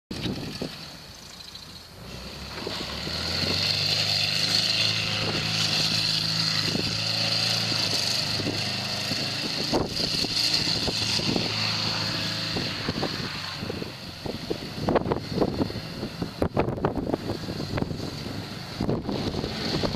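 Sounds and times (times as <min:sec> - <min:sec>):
car engine revving hard: 0:02.0 - 0:19.9.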